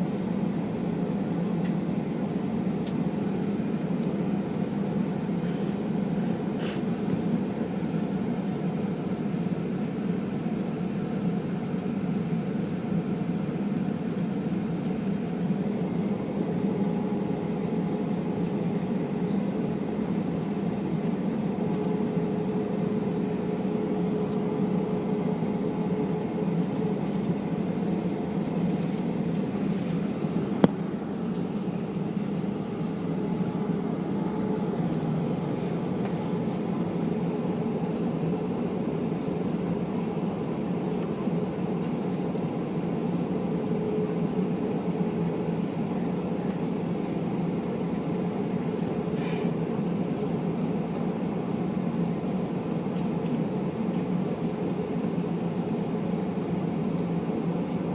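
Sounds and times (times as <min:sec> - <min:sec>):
airplane cabin drone: 0:00.0 - 0:57.9.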